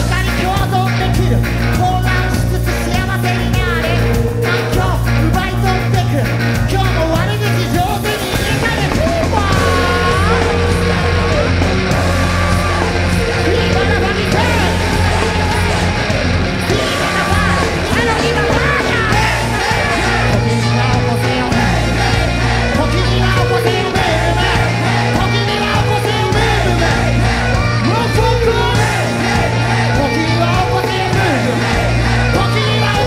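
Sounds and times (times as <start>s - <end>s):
people singing and yelling: 0.0s - 33.0s
rock band playing live: 0.0s - 33.0s.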